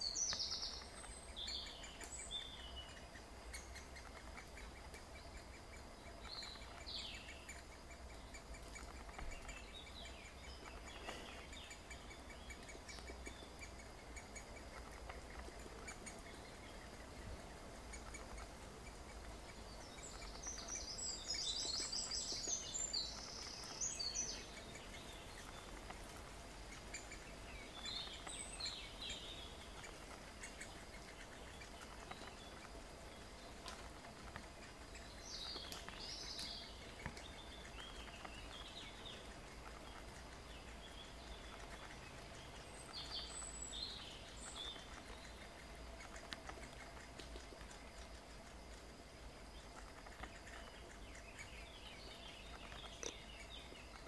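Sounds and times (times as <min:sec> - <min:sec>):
birds chirping: 0:00.0 - 0:54.0
faint outdoor background hiss: 0:00.0 - 0:54.0.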